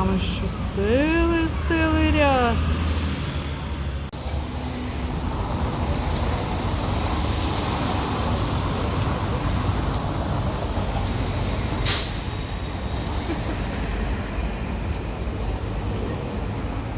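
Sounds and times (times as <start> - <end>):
traffic noise: 0.0 - 16.9.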